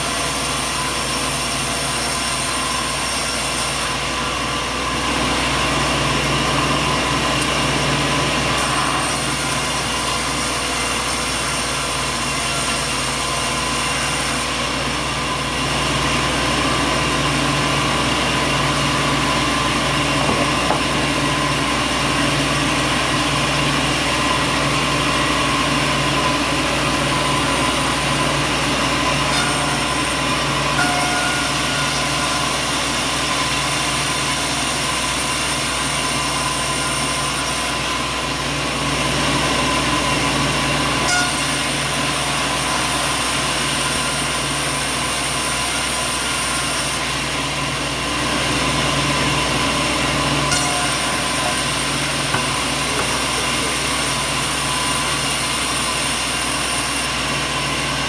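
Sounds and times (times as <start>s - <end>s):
heavy machinery running: 0.0s - 58.0s.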